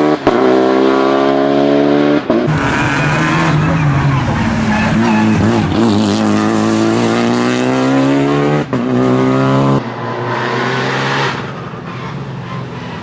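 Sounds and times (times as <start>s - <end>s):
rally car engine accelerating: 0.0s - 11.6s.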